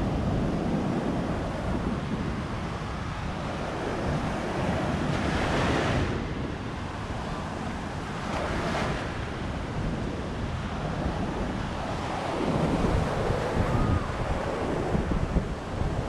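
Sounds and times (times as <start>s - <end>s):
waves washing on sandy shore: 0.0s - 16.0s
wind buffeting microphone: 0.0s - 16.0s.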